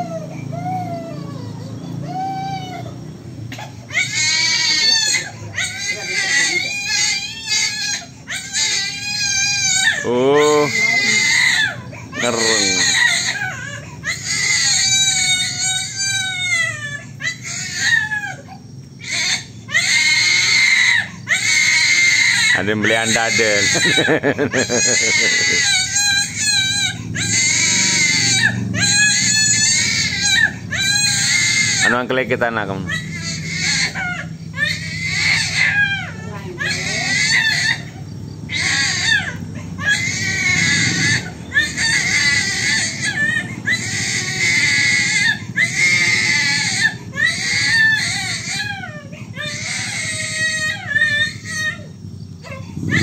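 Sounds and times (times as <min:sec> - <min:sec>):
baby crying: 0:00.0 - 0:53.0.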